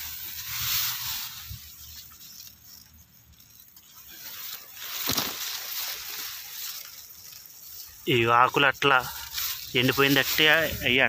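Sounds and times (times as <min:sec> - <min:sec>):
rice leaves rustling and scraping: 0:00.0 - 0:11.0.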